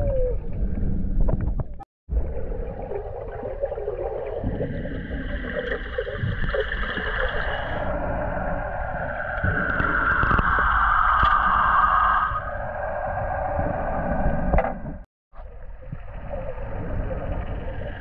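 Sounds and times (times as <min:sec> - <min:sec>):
muffled underwater rushing: 0:00.2 - 0:18.0.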